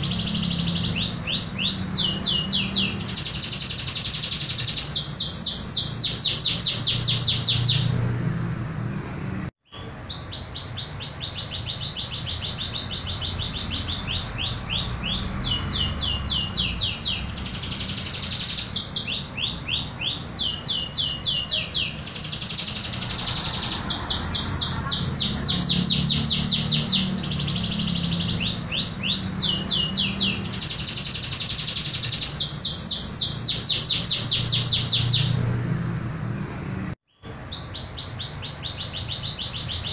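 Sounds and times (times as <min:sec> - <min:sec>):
canary singing: 0:00.0 - 0:08.5, 0:09.6 - 0:35.9, 0:37.1 - 0:39.9.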